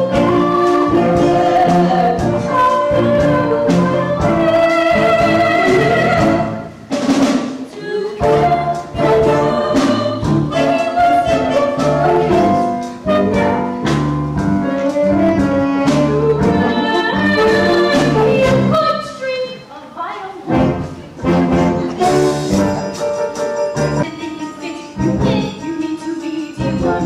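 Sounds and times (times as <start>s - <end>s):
jazzy band music with brass: 0.0s - 19.1s, 20.4s - 27.0s.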